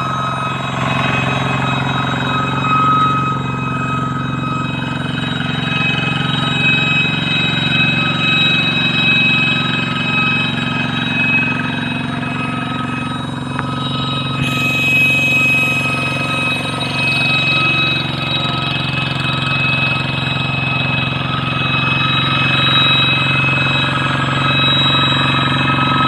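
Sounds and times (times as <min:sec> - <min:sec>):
diesel engine running: 0:00.0 - 0:26.0
high-pitched whistling tone: 0:00.0 - 0:26.0.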